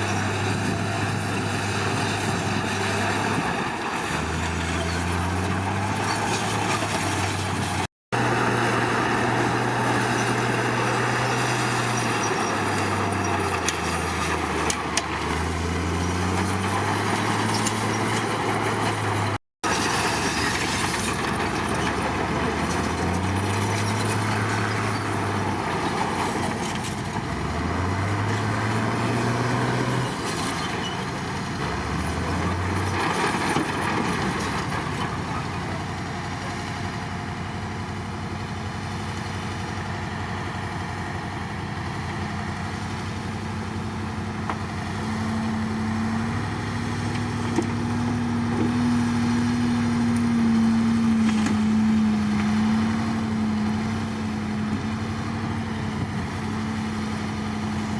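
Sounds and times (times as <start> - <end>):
bulldozer diesel engine revving: 0.0 - 57.9.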